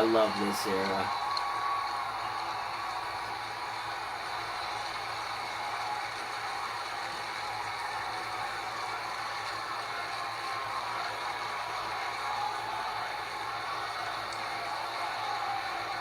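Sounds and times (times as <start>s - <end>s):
crowd cheering and shouting: 0.0s - 16.0s.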